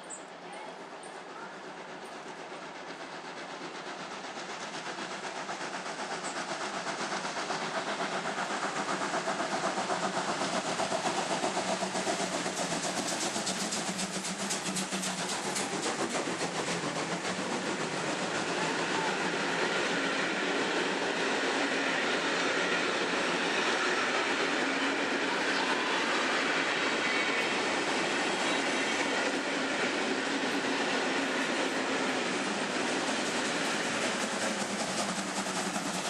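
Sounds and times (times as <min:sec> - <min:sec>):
steam train clattering past: 0:00.0 - 0:36.0.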